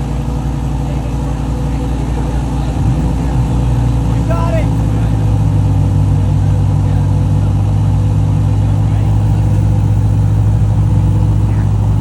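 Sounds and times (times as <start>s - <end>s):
car engine fast idle: 0.0s - 12.0s.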